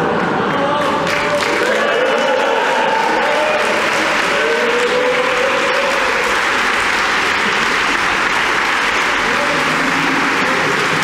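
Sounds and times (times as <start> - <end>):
audience applauding: 0.1 - 11.0.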